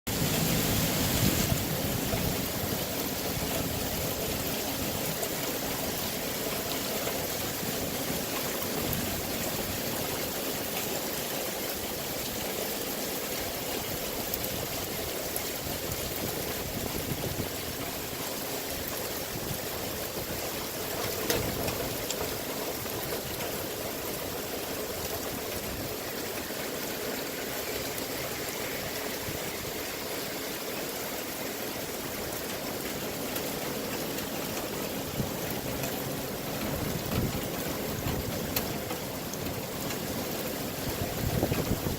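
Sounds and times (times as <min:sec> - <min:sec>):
floodwater rushing: 0:00.1 - 0:41.9
heavy rain pouring: 0:00.1 - 0:41.9.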